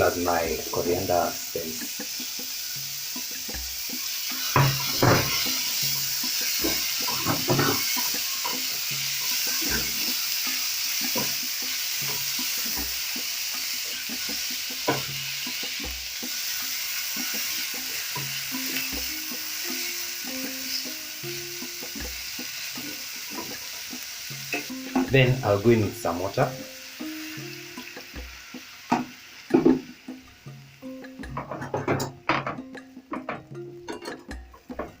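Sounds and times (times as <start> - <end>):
vegetables sizzling in oil: 0.0 - 35.0
spoon knocking against pan: 1.8 - 25.3, 26.6 - 35.0.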